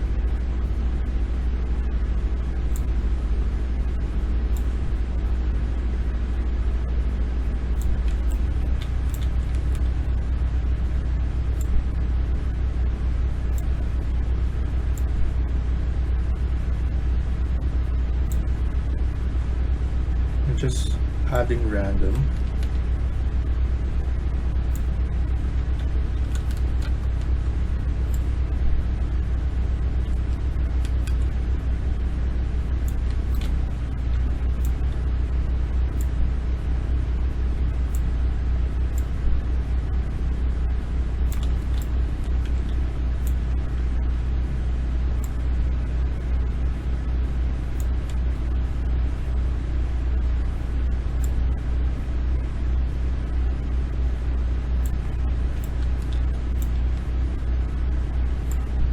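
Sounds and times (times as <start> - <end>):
steady low rumble: 0.0 - 58.9.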